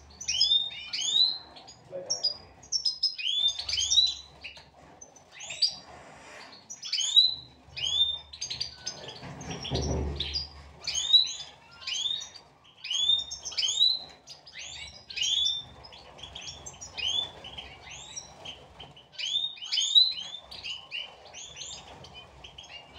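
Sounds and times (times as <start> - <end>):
finches chirping: 0.0 - 22.9.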